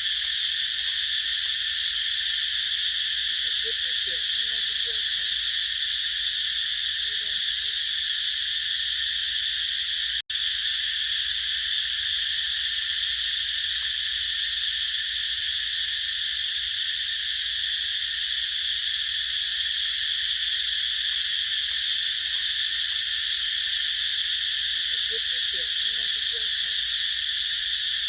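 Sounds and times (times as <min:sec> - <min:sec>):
cicadas buzzing: 0:00.0 - 0:28.0.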